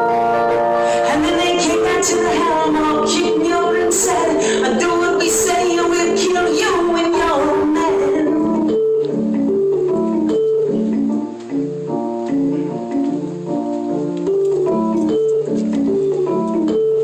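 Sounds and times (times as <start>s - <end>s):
organ-like electric keyboard: 0.0s - 17.0s.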